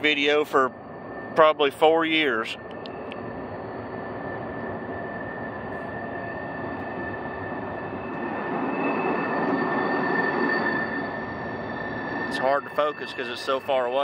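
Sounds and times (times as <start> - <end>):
distant freight train rumble: 0.0 - 14.0.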